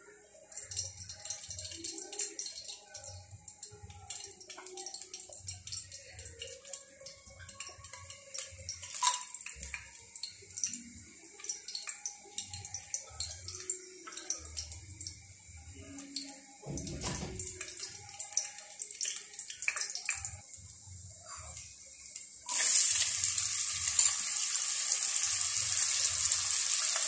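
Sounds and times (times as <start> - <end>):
spices sizzling in hot oil: 0.0 - 27.0.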